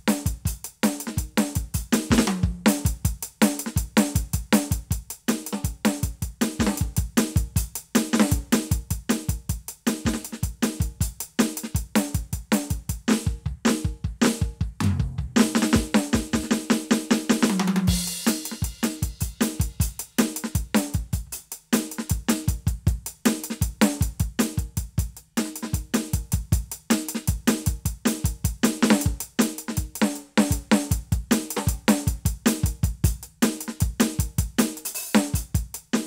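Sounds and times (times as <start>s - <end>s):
electronic drum kit playing: 0.0s - 36.0s.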